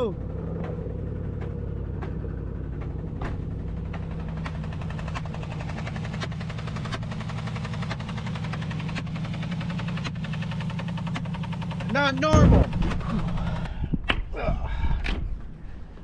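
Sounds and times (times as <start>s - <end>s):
loud mechanical ticking: 0.0s - 13.8s
car engine idling: 0.0s - 14.1s.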